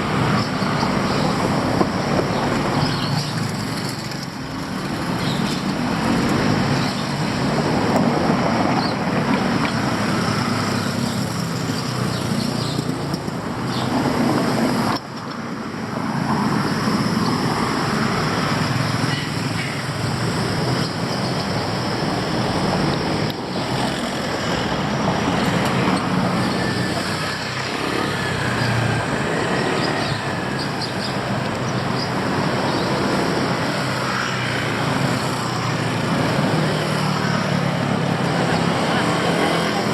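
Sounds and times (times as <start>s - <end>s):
cars and motorbikes passing: 0.0s - 39.9s.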